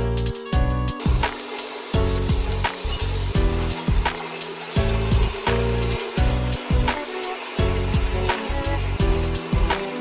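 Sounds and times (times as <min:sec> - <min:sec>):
music with a steady beat: 0:00.0 - 0:10.0
rasping hiss: 0:01.0 - 0:10.0
thin high whine: 0:01.0 - 0:10.0.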